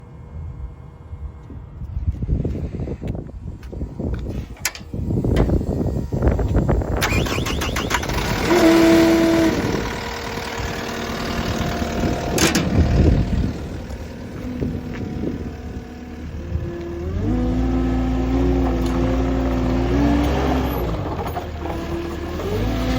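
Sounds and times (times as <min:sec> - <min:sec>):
loader diesel engine running: 0:03.4 - 0:22.9.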